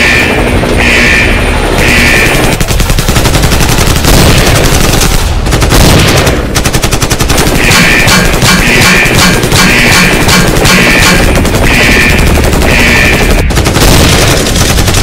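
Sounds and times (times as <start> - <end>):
automatic rifle fire: 2.0 - 15.0.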